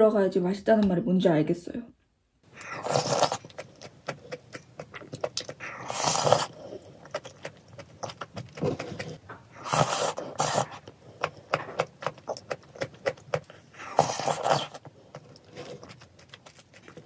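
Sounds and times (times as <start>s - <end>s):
chewing smacks: 2.5s - 17.0s
person slurping soup: 2.5s - 17.0s.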